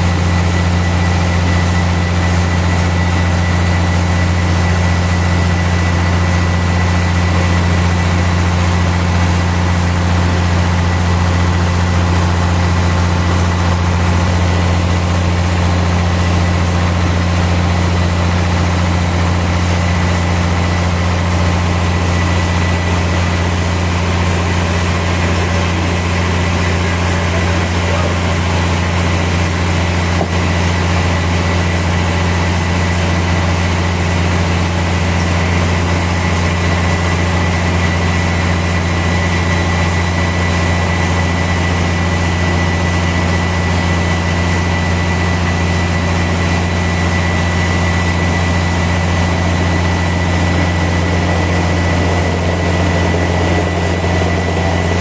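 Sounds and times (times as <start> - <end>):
high machine whine: 0.0 - 55.0
sawmill machinery drone: 0.0 - 55.0.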